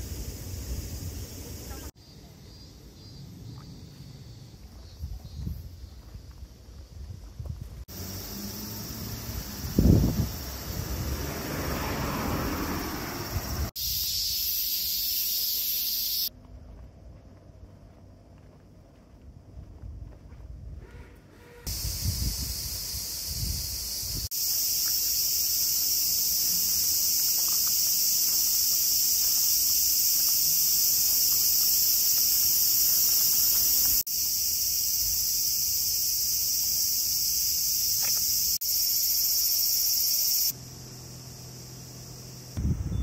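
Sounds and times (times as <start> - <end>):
high-pitched insect chorus: 0.0 - 16.8, 21.7 - 43.0.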